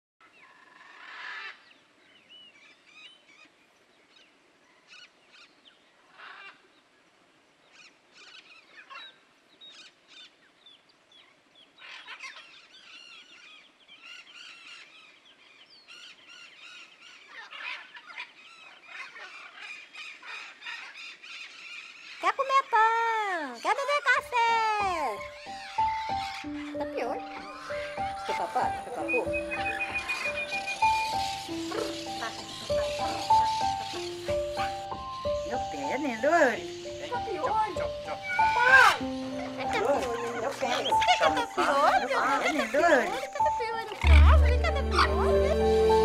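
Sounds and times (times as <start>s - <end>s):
birds calling and chattering: 0.2s - 46.0s.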